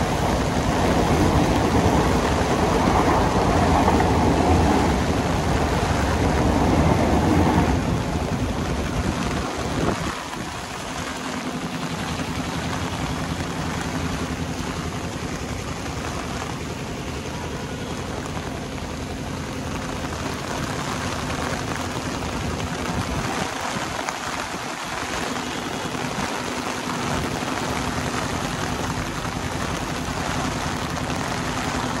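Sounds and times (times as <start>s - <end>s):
steady rain hiss: 0.0s - 32.0s
wind rumbling on microphone: 0.0s - 32.0s.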